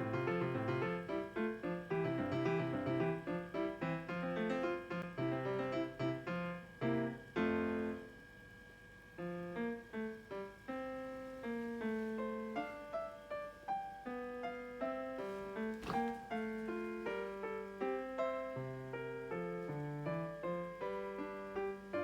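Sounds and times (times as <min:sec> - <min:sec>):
slow piano music: 0:00.0 - 0:08.1, 0:09.2 - 0:22.0.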